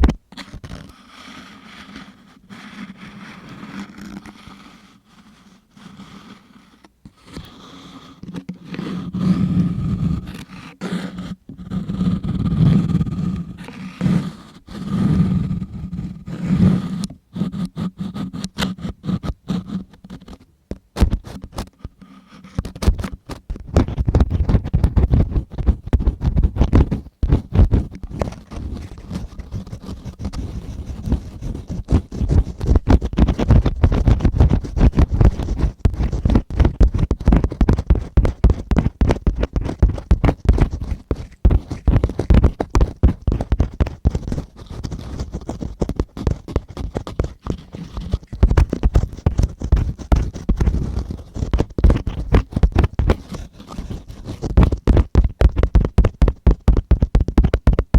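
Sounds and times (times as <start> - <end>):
scratching on a microphone: 0.0 - 57.9.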